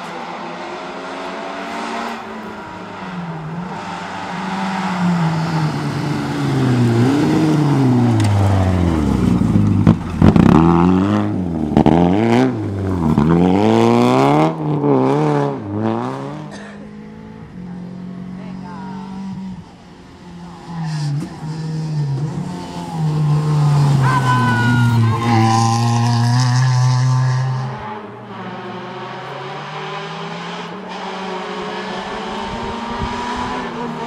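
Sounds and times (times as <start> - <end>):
rally car engine revving past: 0.2 - 34.0.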